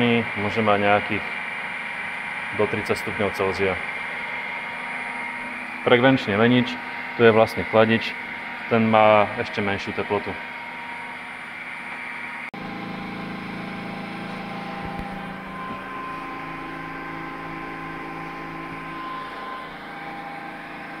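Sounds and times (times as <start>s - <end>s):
electric motor hum: 0.0s - 21.0s
high-pitched whine: 0.0s - 21.0s.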